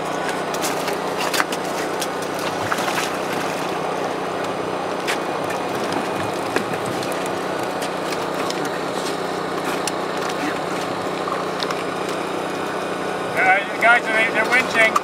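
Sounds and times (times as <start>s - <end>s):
motor running steadily: 0.0s - 15.0s.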